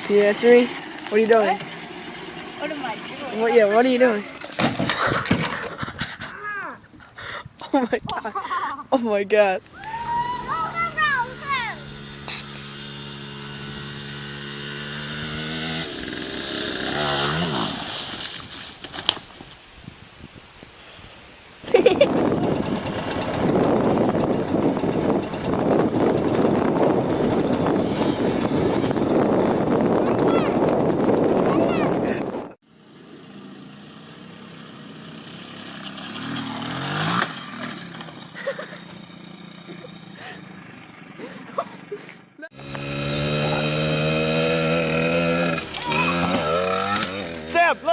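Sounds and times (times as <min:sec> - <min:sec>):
small motorcycle engine revving: 0:00.0 - 0:05.8, 0:09.8 - 0:18.8, 0:21.6 - 0:47.6.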